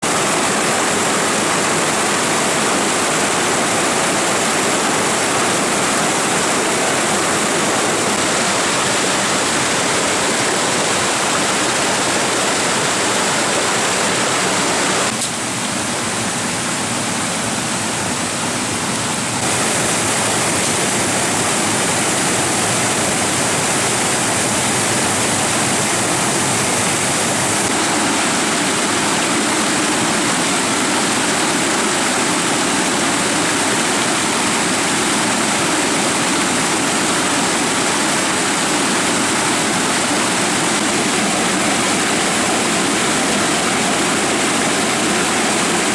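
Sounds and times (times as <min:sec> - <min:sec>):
stream rushing: 0:00.0 - 0:45.9.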